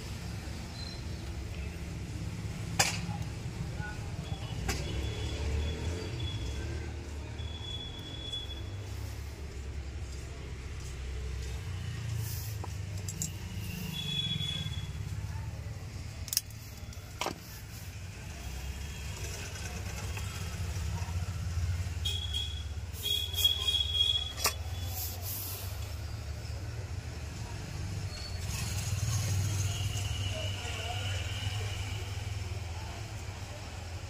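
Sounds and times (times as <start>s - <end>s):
background traffic rumble: 0.0s - 34.0s.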